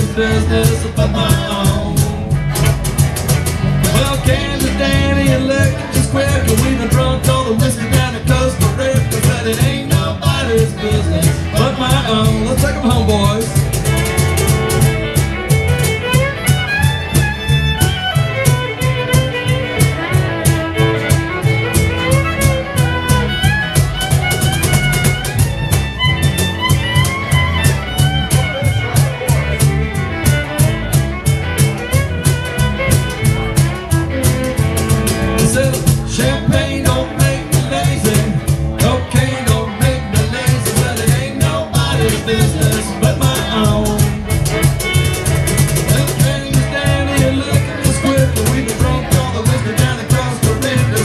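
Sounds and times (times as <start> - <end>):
acoustic band playing: 0.0 - 51.0
cajon beat: 0.0 - 51.0.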